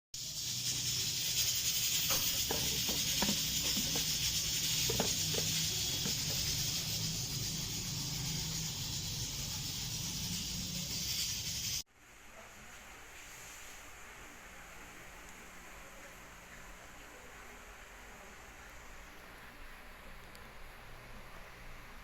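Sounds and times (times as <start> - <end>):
background hiss: 0.2 - 22.0.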